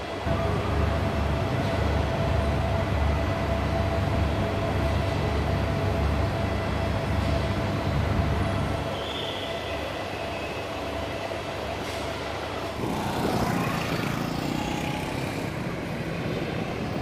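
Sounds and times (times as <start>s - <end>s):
diesel train engine rumbling: 0.0s - 17.0s.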